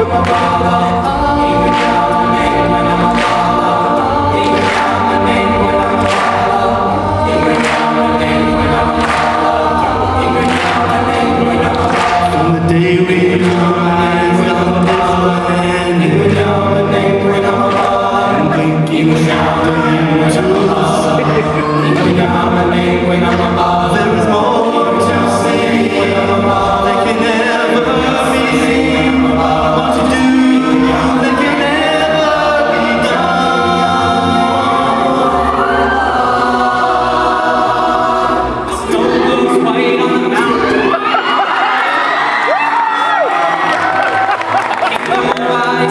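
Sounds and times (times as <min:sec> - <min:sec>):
a cappella group singing: 0:00.0 - 0:45.9.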